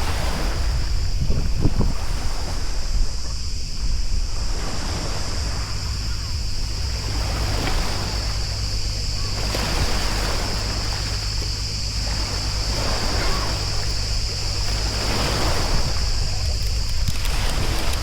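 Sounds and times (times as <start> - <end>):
sea water lapping and splashing: 0.0 - 18.0
steady high hiss: 0.0 - 18.0
wind rumble on microphone: 0.0 - 18.0.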